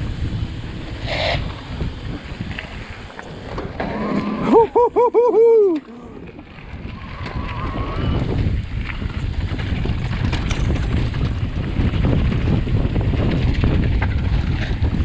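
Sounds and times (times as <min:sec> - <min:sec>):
bike tyres rumbling on dirt: 0:00.0 - 0:15.0
wind buffeting microphone: 0:00.0 - 0:15.0.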